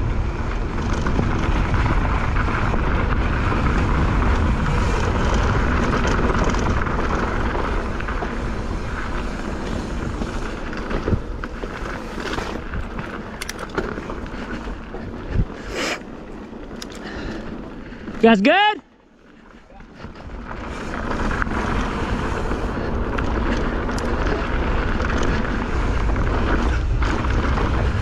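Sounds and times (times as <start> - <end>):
bike knocks and rattles: 0.0 - 18.2, 19.8 - 28.0
wind rushing over microphone: 0.0 - 18.4, 19.8 - 28.0
tyres rumbling over dirt: 0.0 - 28.0.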